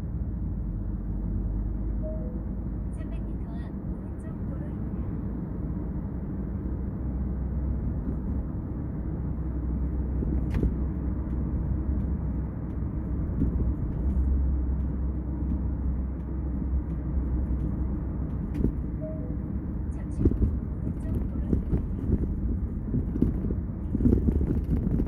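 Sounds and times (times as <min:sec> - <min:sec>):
car cabin road and engine rumble: 0:00.0 - 0:25.0.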